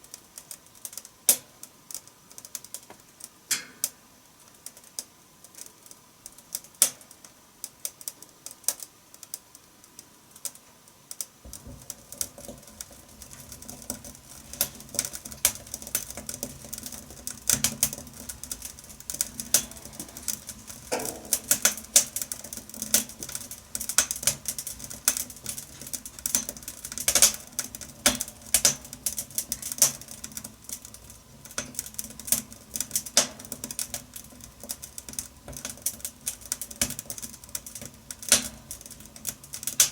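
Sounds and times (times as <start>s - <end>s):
low rumble of burning fire: 0.0s - 39.9s
wood fire crackling and popping: 0.0s - 39.9s.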